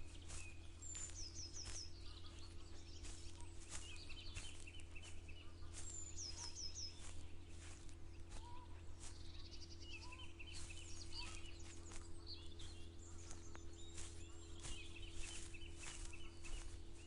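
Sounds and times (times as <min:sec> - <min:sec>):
birds chirping and trilling: 0:00.0 - 0:17.0
faint low hum: 0:00.0 - 0:17.0.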